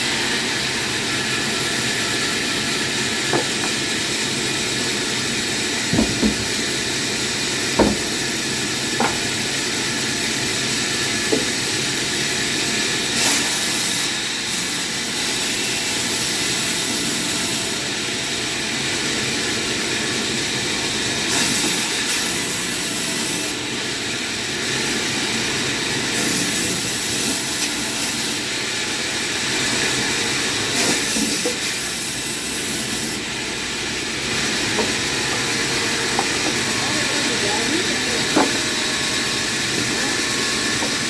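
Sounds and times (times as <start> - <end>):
power saw running: 0.0 - 41.0.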